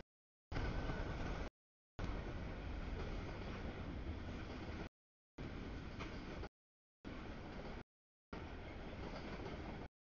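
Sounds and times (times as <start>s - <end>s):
freight train wheels rumbling on track: 0.5s - 6.5s, 7.1s - 7.8s, 8.4s - 9.9s.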